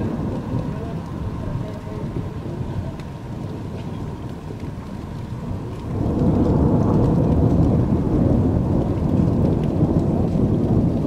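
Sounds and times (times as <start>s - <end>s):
rolling thunder: 0.0s - 11.0s.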